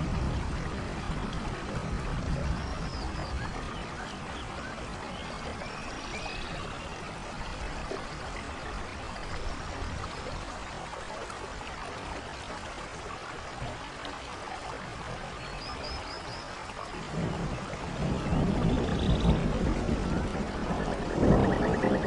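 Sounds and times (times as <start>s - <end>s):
rain on foliage: 0.0s - 22.0s.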